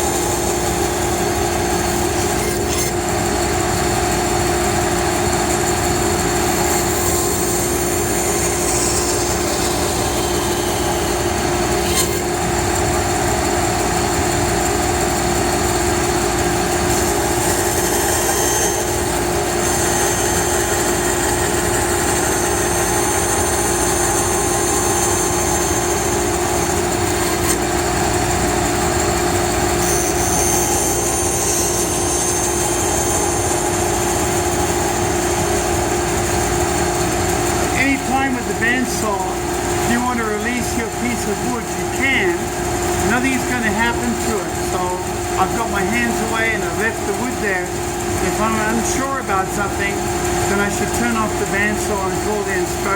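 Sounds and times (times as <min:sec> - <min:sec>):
band saw cutting wood: 0:00.0 - 0:52.9.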